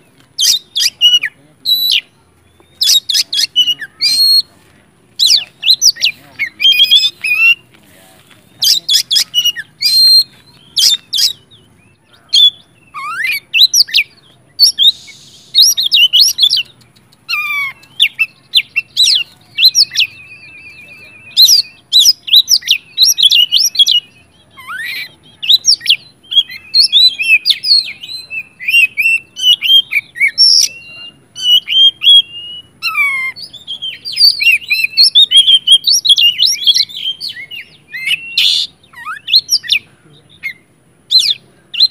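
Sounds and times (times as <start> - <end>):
bird singing varied phrases: 0.0 - 41.9.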